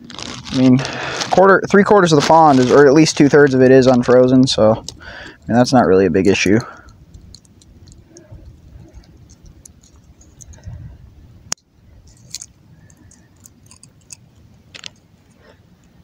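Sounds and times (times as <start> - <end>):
light clicks and handling noise: 2.1 - 16.0.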